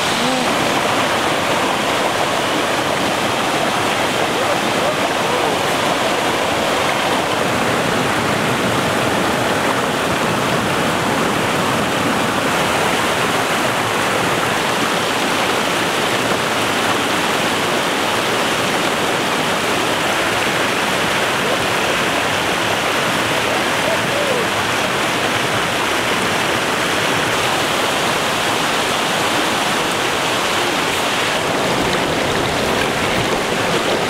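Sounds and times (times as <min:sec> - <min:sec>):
rocky stream rushing: 0:00.0 - 0:34.0.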